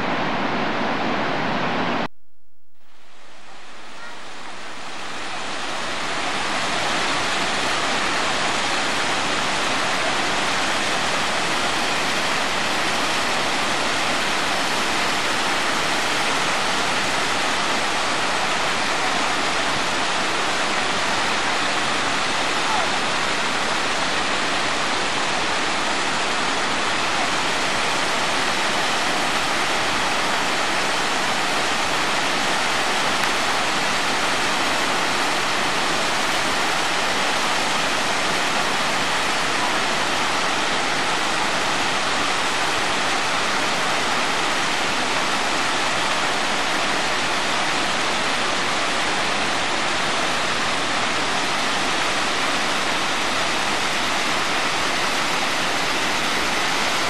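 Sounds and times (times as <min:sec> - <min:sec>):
river rushing over boulders: 0:00.0 - 0:02.1, 0:03.1 - 0:57.0.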